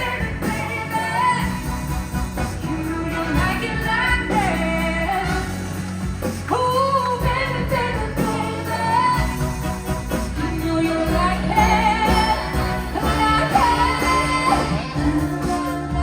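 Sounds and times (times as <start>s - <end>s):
live pop band: 0.0s - 16.0s.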